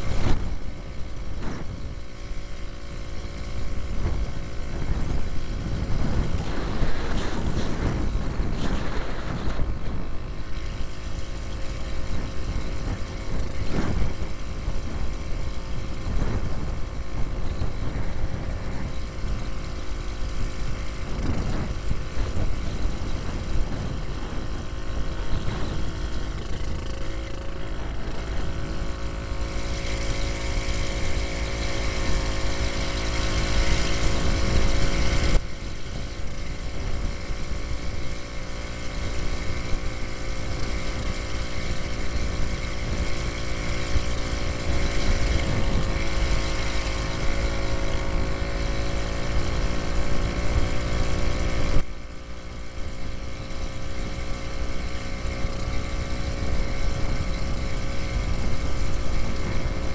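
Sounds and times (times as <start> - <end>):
two-stroke engine running: 0.0 - 59.9
wind rumbling on microphone: 0.0 - 59.9.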